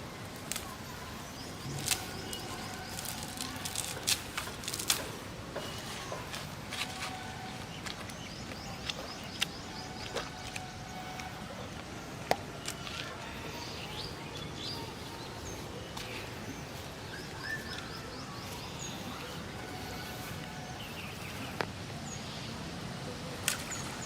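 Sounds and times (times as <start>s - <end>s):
birds chirping: 0.0s - 24.0s
steady background hiss: 0.0s - 24.0s.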